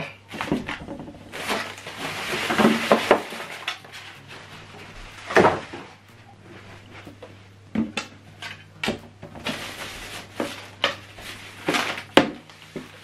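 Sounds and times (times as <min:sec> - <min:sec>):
polystyrene foam rustling: 0:00.3 - 0:07.2, 0:09.4 - 0:13.0.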